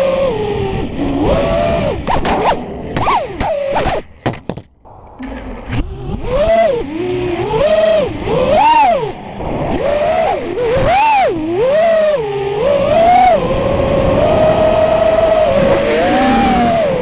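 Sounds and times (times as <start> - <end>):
quadcopter motors whining: 0.0 - 4.2, 5.0 - 17.0.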